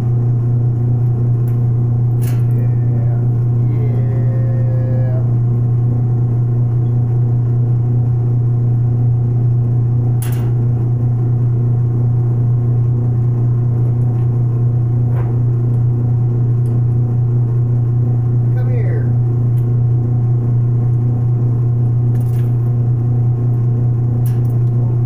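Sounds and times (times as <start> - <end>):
metal lathe motor humming: 0.0 - 25.0.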